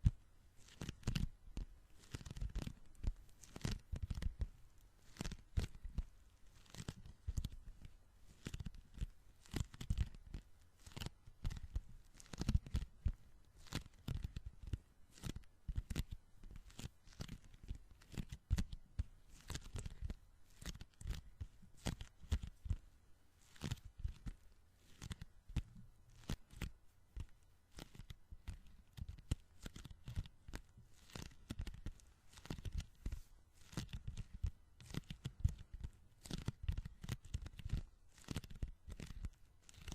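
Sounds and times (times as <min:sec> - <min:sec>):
sticky hands crackling and peeling: 0:00.0 - 0:39.9.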